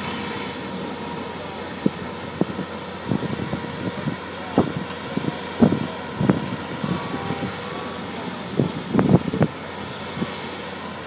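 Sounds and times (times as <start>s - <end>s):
machinery running: 0.0s - 11.0s.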